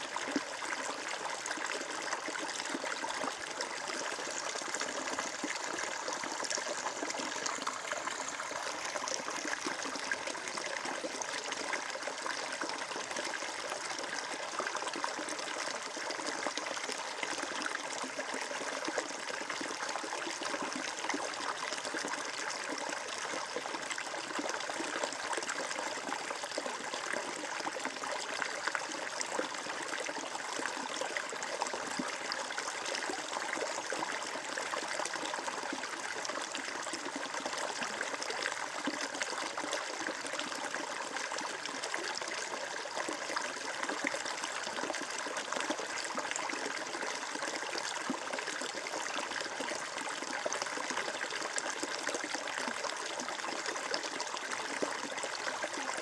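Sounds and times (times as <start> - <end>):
stream trickling and splashing: 0.0 - 56.0.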